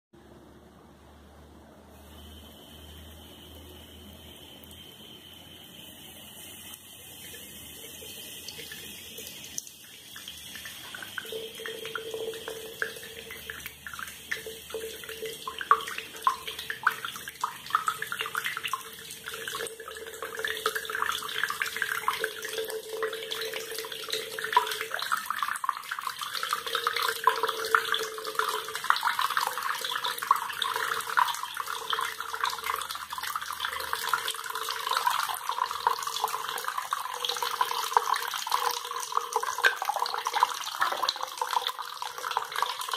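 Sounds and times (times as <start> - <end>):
tap water splashing into sink: 7.2 - 42.9.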